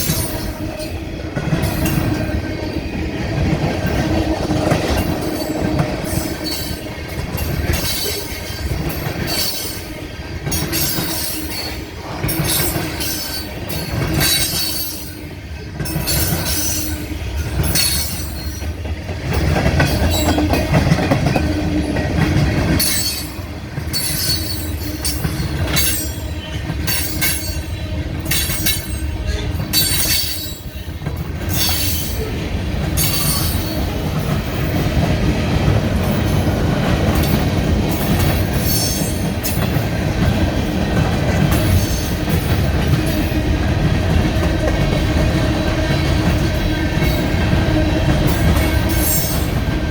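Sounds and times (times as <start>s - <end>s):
train wheels clacking over rails: 0.0s - 49.9s.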